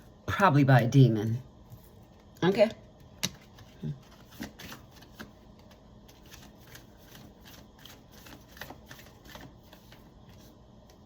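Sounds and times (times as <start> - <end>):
cards being shuffled: 1.7 - 11.0.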